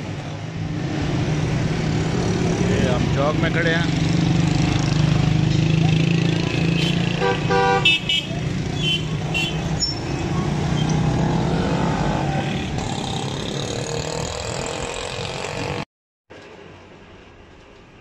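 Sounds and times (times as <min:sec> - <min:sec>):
traffic engine and road noise: 0:00.0 - 0:18.0.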